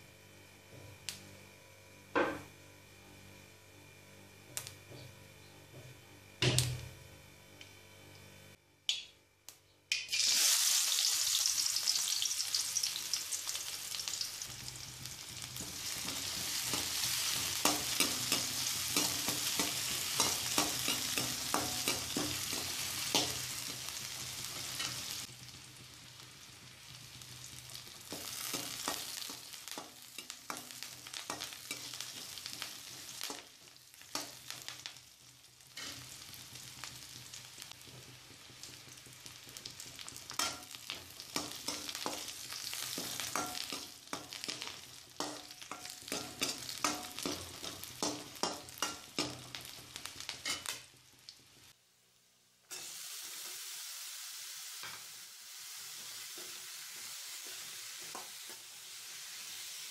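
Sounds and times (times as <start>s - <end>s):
onions sizzling in oil: 9.9s - 59.9s.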